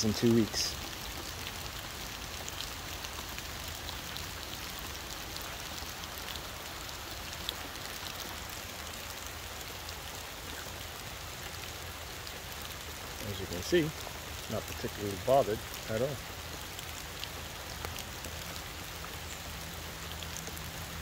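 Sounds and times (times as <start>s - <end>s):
rain on leaves and ground: 0.0s - 21.0s
water drips: 0.0s - 21.0s.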